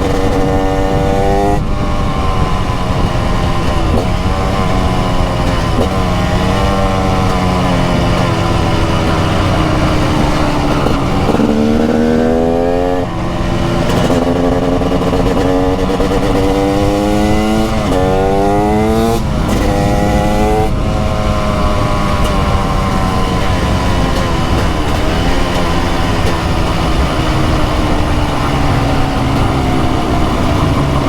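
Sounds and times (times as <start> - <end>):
two-stroke motorcycle accelerating: 0.0 - 31.0.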